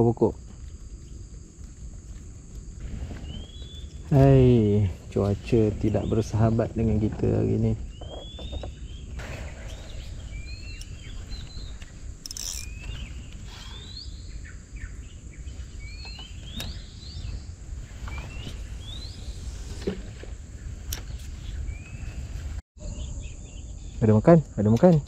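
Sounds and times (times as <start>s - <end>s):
birds chirping: 0.0s - 25.0s
insect whine: 0.0s - 25.0s.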